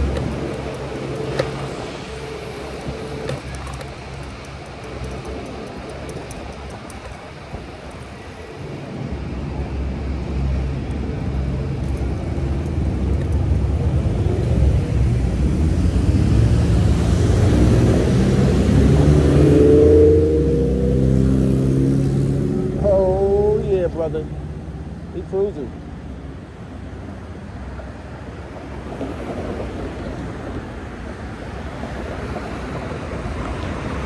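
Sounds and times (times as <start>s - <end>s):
wind and road rumble: 0.0s - 34.0s.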